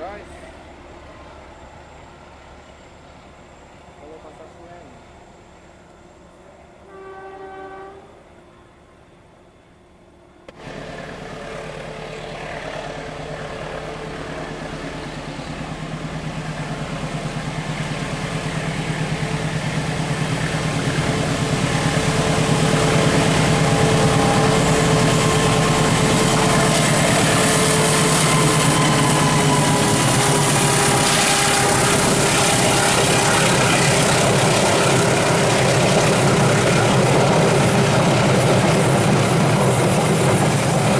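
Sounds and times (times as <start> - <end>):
diesel locomotive engine drone: 0.0 - 40.9
rail and wheel noise: 0.0 - 40.9.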